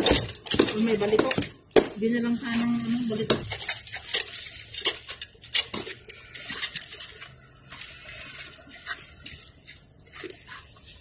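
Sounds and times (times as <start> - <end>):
leafy branches and soil rustling: 0.0 - 11.0.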